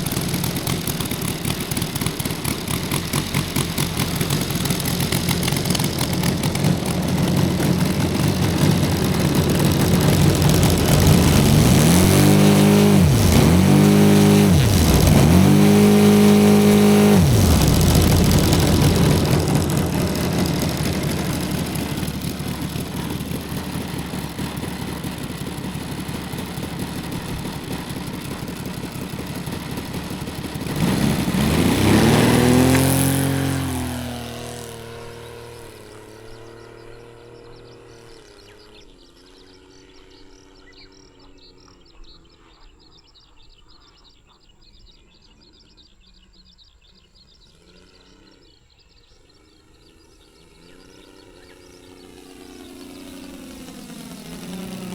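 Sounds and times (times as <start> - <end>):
model plane engine flying past: 0.0 - 40.6, 47.4 - 54.9.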